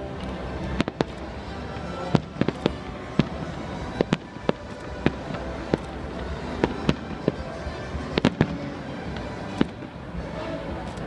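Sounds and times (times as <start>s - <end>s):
fireworks bangs: 0.7s - 11.0s.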